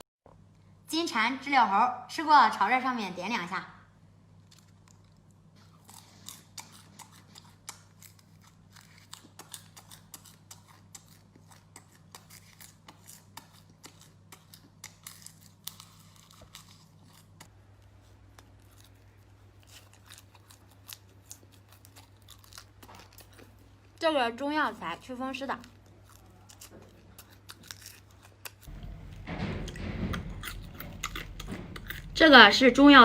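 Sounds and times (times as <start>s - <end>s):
low electrical hum: 0.3s - 33.0s
crunchy chewing: 4.4s - 24.0s, 25.0s - 32.2s.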